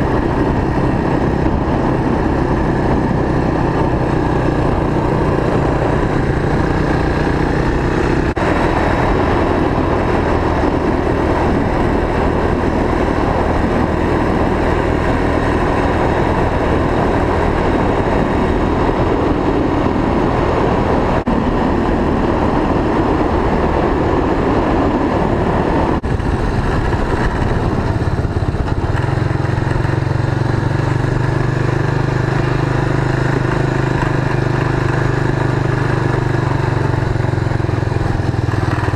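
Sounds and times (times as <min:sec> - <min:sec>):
trike engine running: 0:00.0 - 0:38.9.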